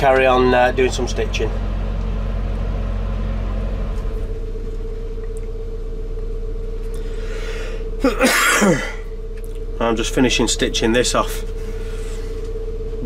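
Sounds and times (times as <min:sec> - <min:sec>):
boat engine low hum: 0:00.0 - 0:13.0
steady higher tone: 0:00.0 - 0:13.0.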